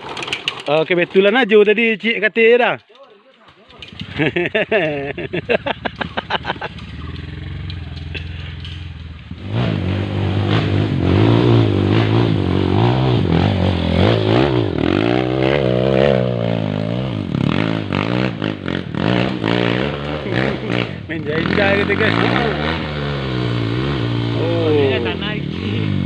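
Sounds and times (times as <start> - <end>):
motorcycle engine revving: 0.0 - 1.2, 3.5 - 26.0.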